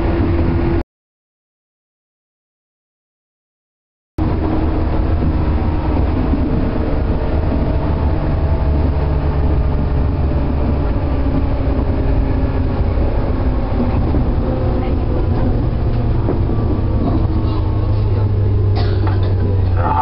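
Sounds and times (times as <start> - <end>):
electric train running hum: 0.0 - 0.8, 4.2 - 20.0.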